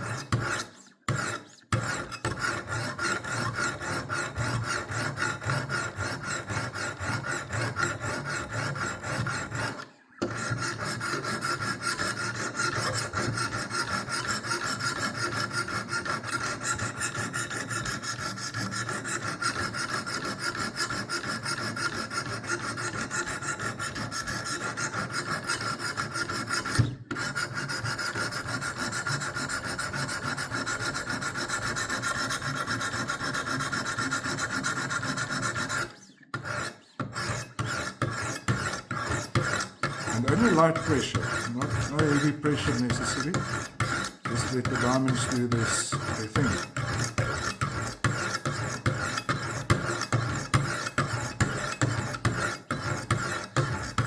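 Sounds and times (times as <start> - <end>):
sharpening stones scraping knife edge: 0.0 - 54.0.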